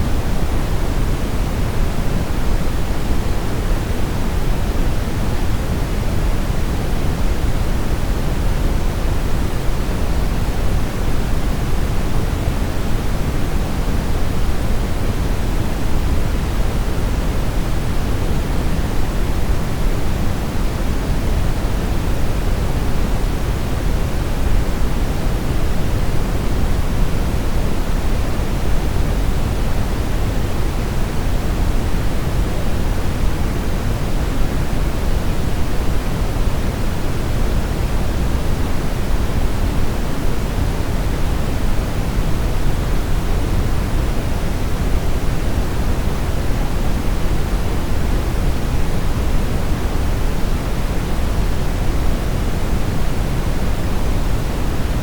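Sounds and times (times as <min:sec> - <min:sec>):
brown noise hiss: 0:00.0 - 0:55.0.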